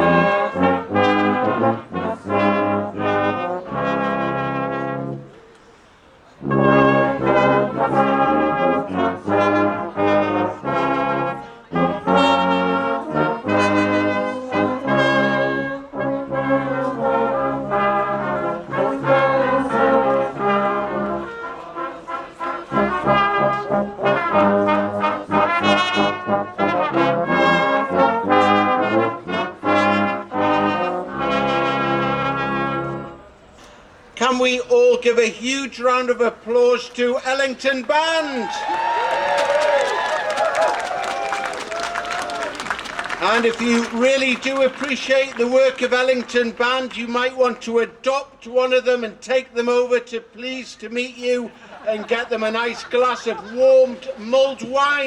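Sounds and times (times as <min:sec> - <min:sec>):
brass band playing carol: 0:00.0 - 0:47.8.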